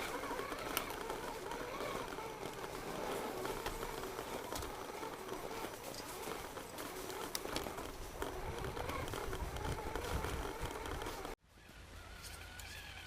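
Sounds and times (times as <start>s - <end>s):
electric motor whining: 0.0s - 11.4s
sharp clicks: 0.0s - 11.4s.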